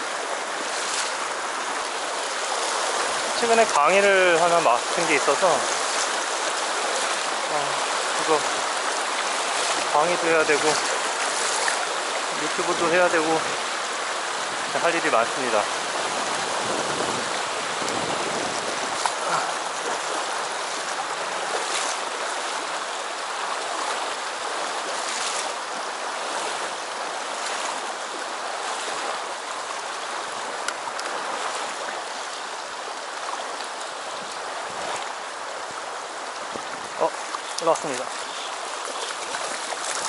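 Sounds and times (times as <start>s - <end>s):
stream running over stones: 0.0s - 40.0s.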